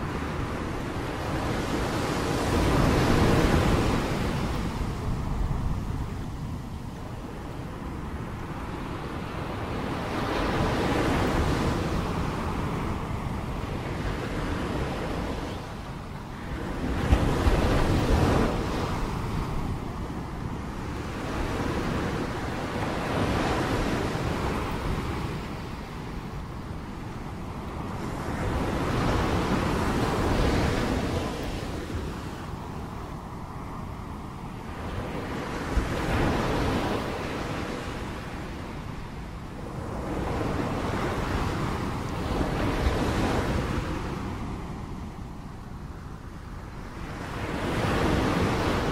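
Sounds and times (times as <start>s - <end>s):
sea waves on shore: 0.0s - 48.9s
wind on microphone: 0.0s - 48.9s.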